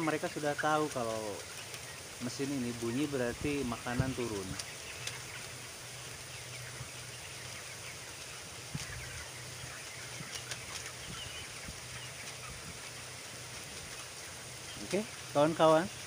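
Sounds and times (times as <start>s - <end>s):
chickens peeping and chirping: 0.0s - 16.0s.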